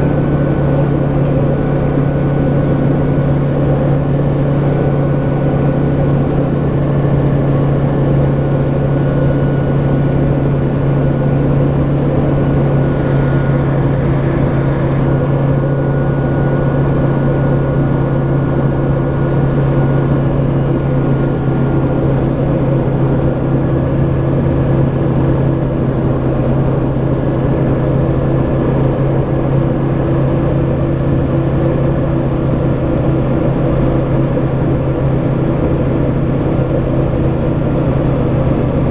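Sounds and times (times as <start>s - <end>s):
gyroplane engine and propeller drone: 0.0s - 38.9s.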